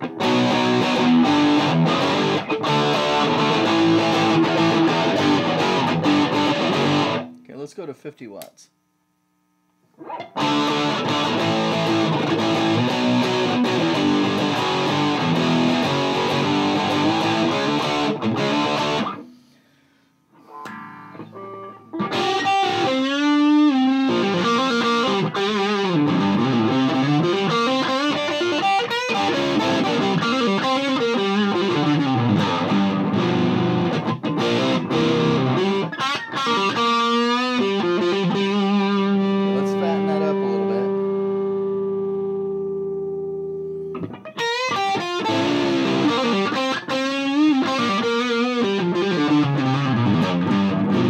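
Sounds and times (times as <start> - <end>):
overdriven electric guitar: 0.0 - 7.5, 9.9 - 51.0.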